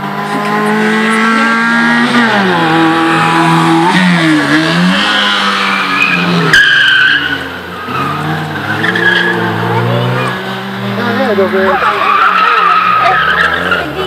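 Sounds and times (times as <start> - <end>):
small car engine revving: 0.0 - 14.0.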